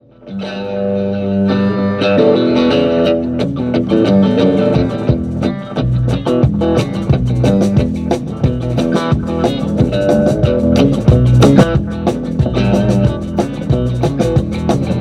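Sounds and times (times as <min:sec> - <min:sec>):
band playing instrumental: 0:00.3 - 0:15.0.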